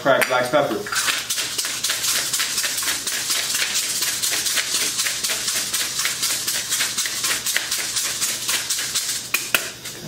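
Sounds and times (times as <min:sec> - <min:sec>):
pepper mill grinding: 0:00.9 - 0:10.0.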